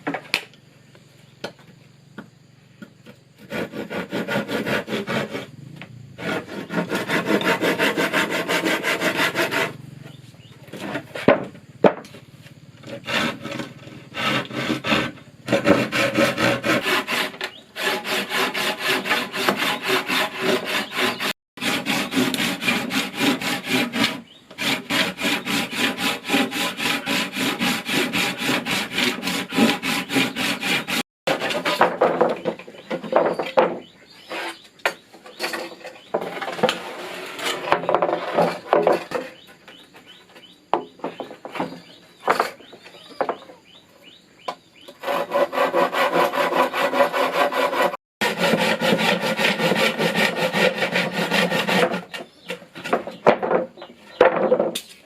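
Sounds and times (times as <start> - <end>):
scraping and knocks: 2.8 - 43.6, 44.9 - 55.0
hand saw cutting wood: 3.0 - 5.6, 6.2 - 12.2, 12.8 - 39.8, 44.9 - 53.6.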